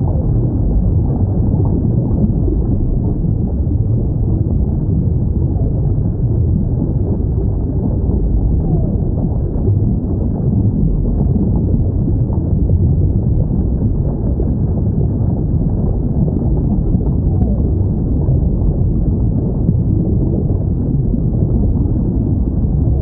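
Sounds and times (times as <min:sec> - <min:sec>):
low underwater rumble: 0:00.0 - 0:23.0.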